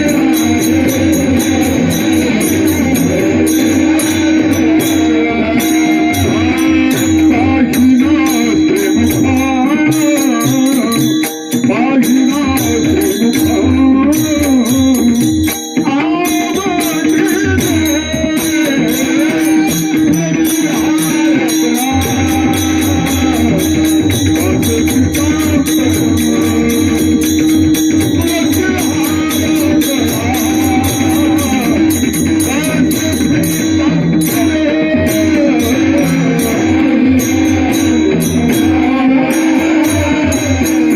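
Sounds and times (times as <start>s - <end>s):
drum beat: 0.0s - 40.9s
man singing ornamented melody: 0.0s - 40.9s
small hand cymbals: 0.0s - 40.9s.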